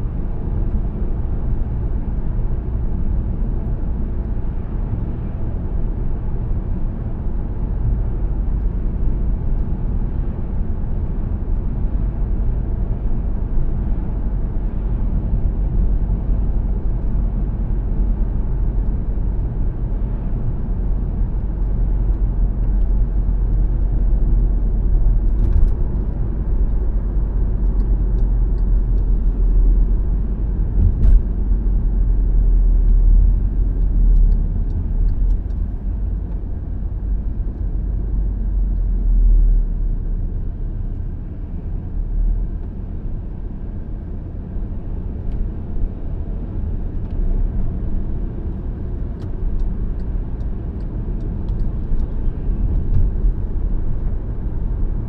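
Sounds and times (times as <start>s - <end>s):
car driving on road: 0.0s - 55.0s.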